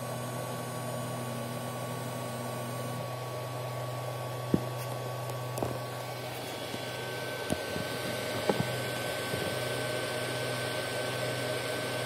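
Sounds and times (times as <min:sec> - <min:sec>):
small motor humming and whirring: 0:00.0 - 0:12.0.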